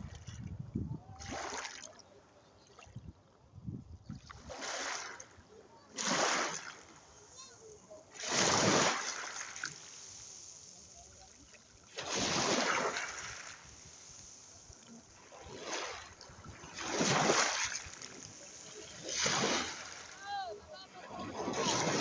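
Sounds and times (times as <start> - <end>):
sea waves breaking on shore: 1.0 - 2.0, 4.2 - 22.0.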